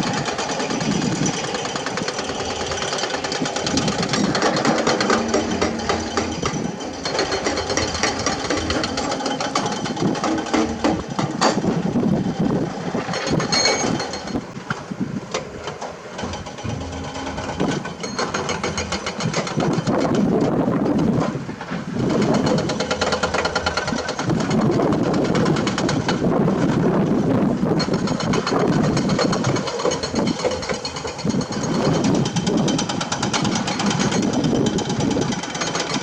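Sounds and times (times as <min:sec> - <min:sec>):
excavator diesel engine under load: 0:00.0 - 0:36.0.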